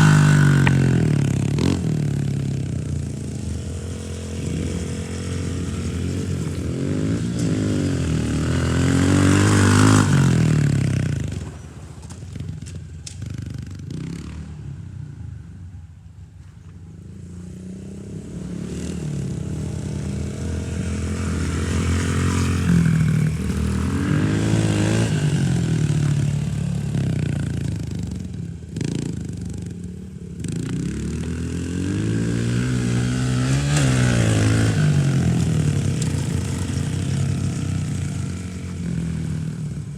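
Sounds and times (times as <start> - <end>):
dirt bike engine revving: 0.0 - 12.2, 17.2 - 39.9.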